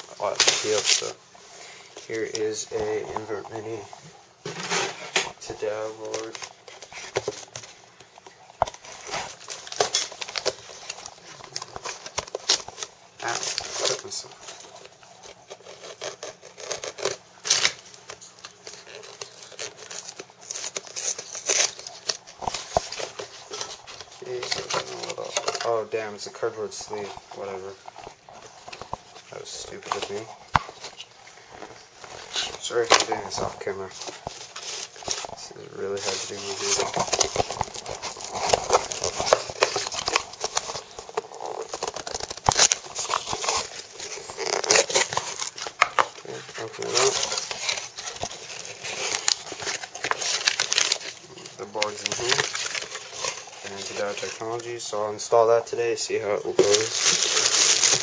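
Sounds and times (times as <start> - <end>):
packaging rustling and crinkling: 0.0 - 58.0.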